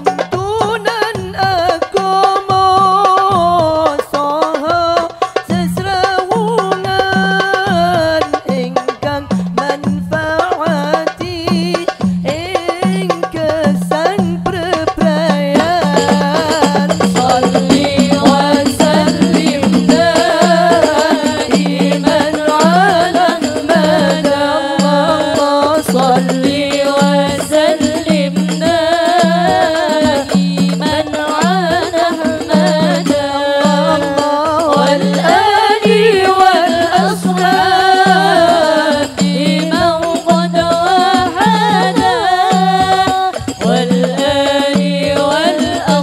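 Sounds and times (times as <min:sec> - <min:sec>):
solo female voice singing: 0:00.0 - 0:46.0
steady percussion beat: 0:00.0 - 0:46.0
women singing devotional songs: 0:00.0 - 0:46.0.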